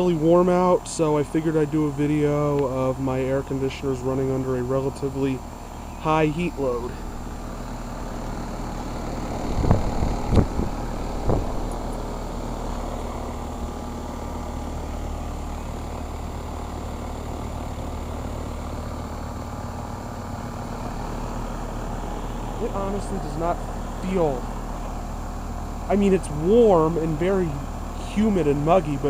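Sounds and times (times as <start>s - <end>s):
compressor hum: 0.0s - 29.0s
outdoor fan whoosh: 0.0s - 29.0s.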